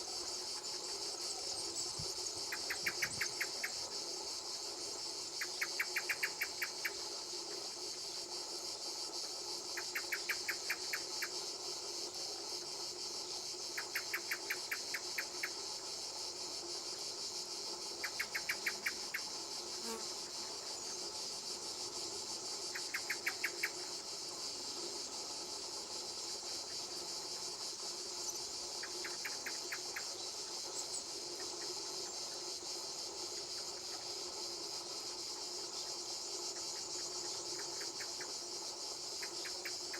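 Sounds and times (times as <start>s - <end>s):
insect quick chirps: 0.0s - 39.9s
insects buzzing chorus: 0.0s - 39.9s.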